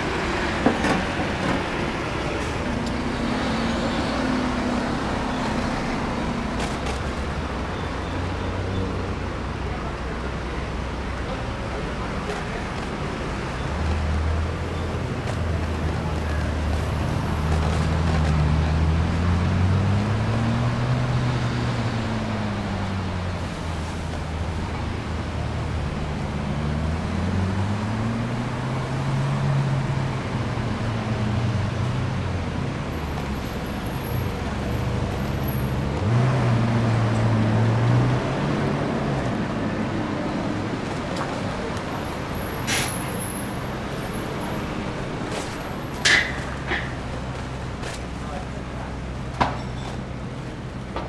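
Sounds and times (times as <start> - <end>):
street traffic noise: 0.0 - 51.0.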